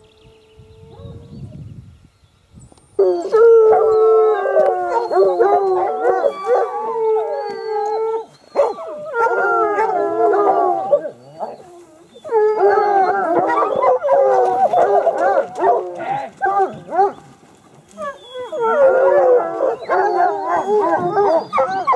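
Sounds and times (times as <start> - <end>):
hounds baying and howling: 0.0 - 1.5, 3.0 - 21.9.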